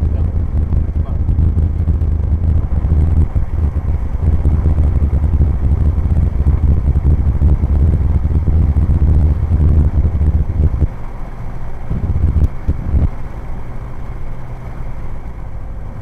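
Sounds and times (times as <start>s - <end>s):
small plane engine drone: 0.0s - 16.0s.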